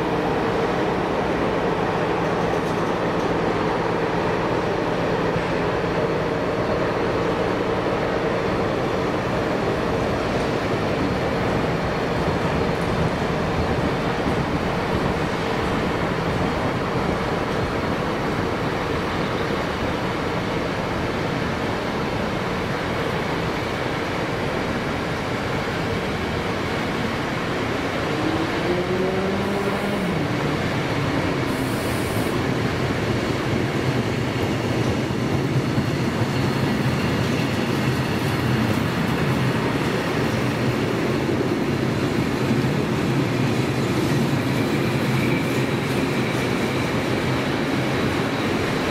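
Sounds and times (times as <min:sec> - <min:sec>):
train wheels running past: 0:00.0 - 0:48.9.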